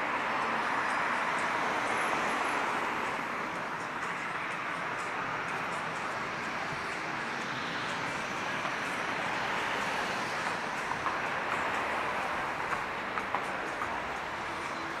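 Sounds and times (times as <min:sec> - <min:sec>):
street traffic hiss: 0:00.0 - 0:15.0.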